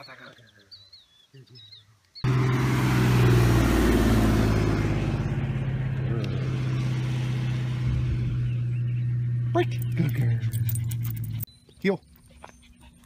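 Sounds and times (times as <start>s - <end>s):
engine droning hum: 2.2s - 13.0s.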